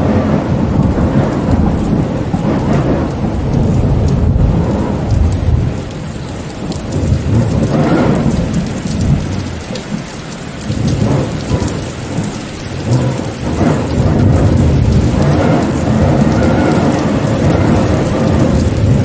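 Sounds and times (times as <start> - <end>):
heavy rain falling: 0.0 - 19.0
rolling thunder: 0.0 - 19.0.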